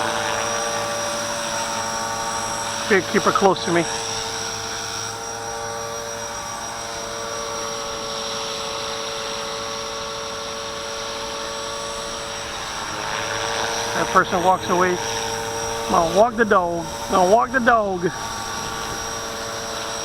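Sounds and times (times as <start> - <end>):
rc helicopter hovering: 0.0 - 20.0.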